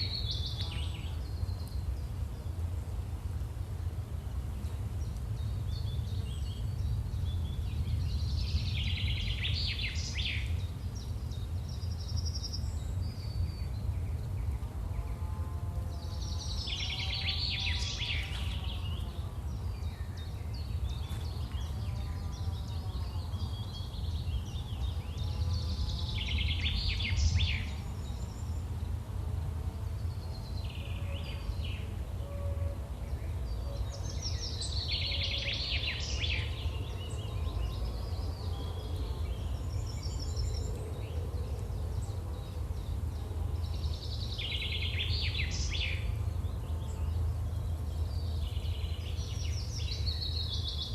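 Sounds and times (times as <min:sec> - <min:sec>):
songbird singing: 0:00.0 - 0:50.9.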